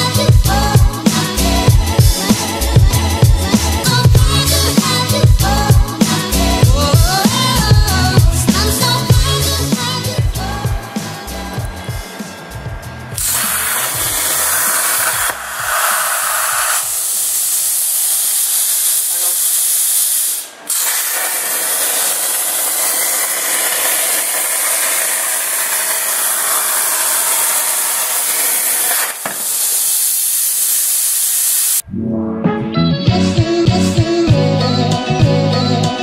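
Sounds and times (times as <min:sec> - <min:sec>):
plasma cutter hissing: 0:00.0 - 0:31.8.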